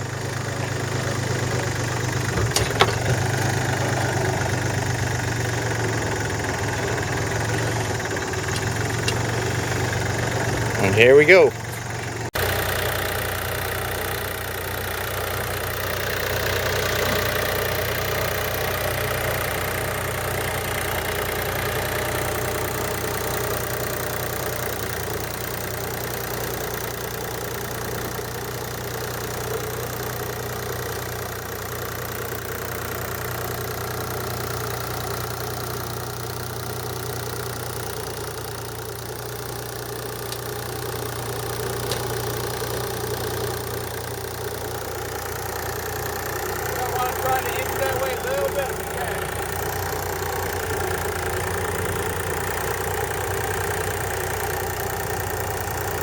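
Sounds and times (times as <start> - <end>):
harvesting machinery humming: 0.0 - 56.0.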